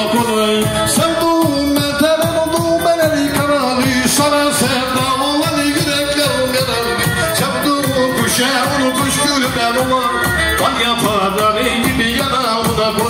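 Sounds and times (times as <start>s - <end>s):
keyboard accompaniment: 0.0s - 13.0s
steady drum beat: 0.0s - 13.0s.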